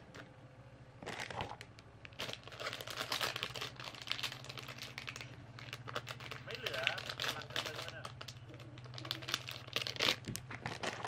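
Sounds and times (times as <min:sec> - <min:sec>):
stationery crinkling and rustling: 0:01.0 - 0:11.0.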